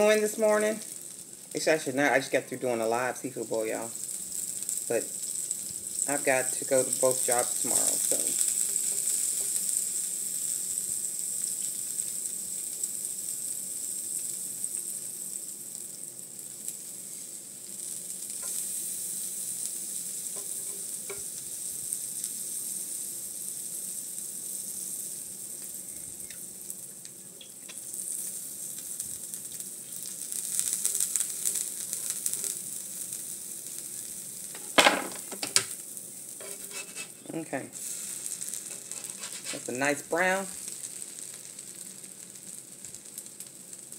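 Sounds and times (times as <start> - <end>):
pancakes sizzling on griddle: 0.0 - 43.9.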